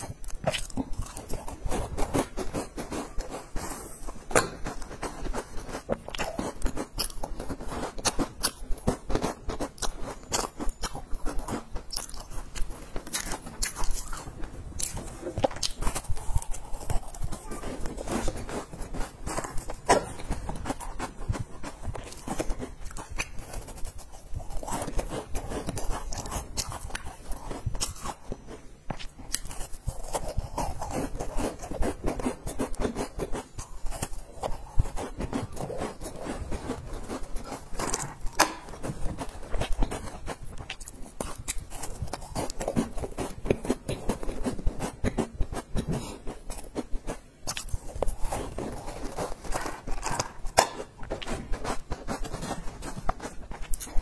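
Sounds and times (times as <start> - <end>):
cookie being chewed: 0.0 - 54.0.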